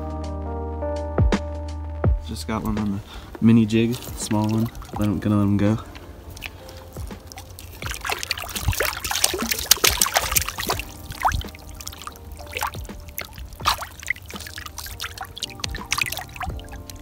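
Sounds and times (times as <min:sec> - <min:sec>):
shallow water splashing: 0:02.8 - 0:17.0.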